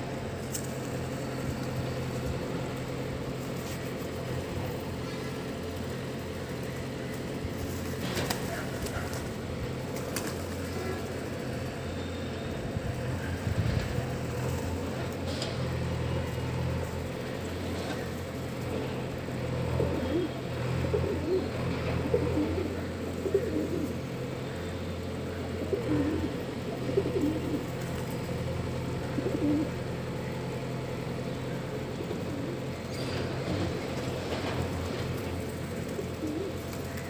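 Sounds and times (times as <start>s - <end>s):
steady low hum: 0.0s - 37.0s
pigeons cooing: 0.9s - 37.0s.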